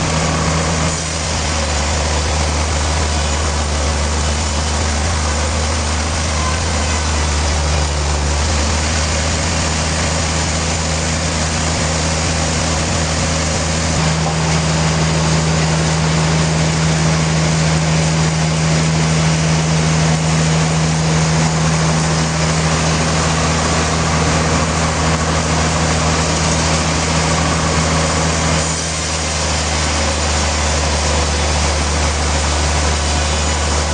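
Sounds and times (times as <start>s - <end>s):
motor hum: 0.0s - 33.9s.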